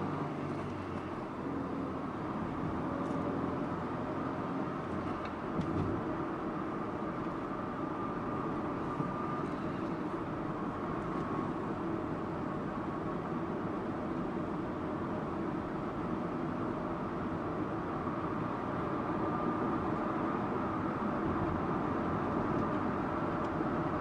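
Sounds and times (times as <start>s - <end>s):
car engine drone: 0.0s - 24.0s
road noise: 0.0s - 24.0s.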